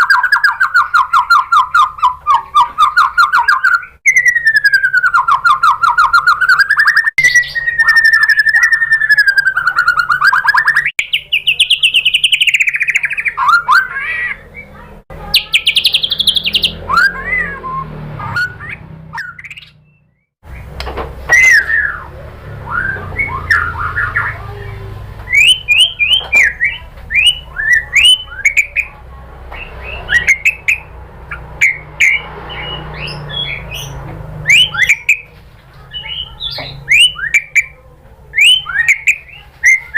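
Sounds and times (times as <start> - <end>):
bird singing whistled phrases: 0.0 - 28.9, 29.6 - 39.9
sharp bird chirps: 0.0 - 29.0, 29.6 - 37.8, 38.4 - 39.9.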